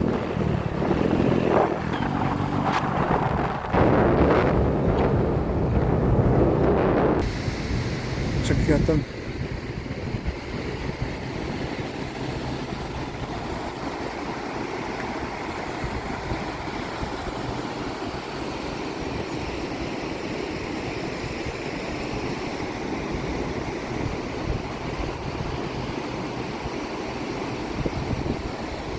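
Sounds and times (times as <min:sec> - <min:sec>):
wind noise: 0:00.0 - 0:19.9, 0:20.9 - 0:28.9
vehicle road and engine rumble: 0:00.0 - 0:28.9.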